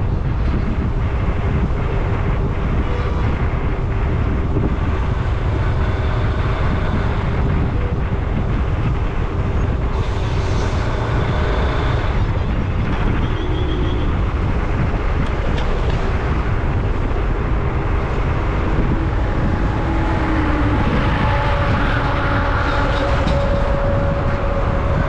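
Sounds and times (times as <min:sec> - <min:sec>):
vehicle rumble on highway: 0:00.0 - 0:25.0
wind buffeting microphone: 0:00.0 - 0:25.0.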